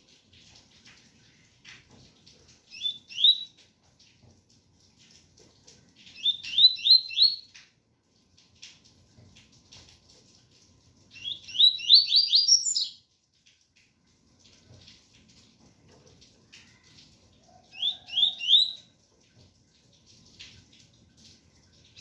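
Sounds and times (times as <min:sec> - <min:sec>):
faint rain patter: 0:00.0 - 0:22.0.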